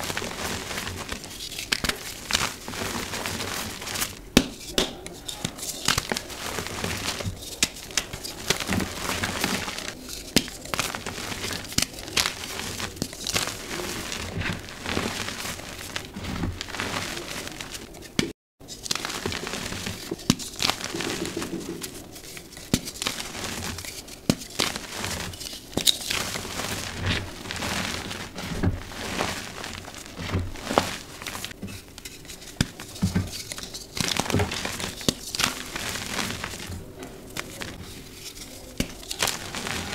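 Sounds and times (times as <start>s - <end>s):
hands crushing chalk blocks: 0.0s - 39.9s.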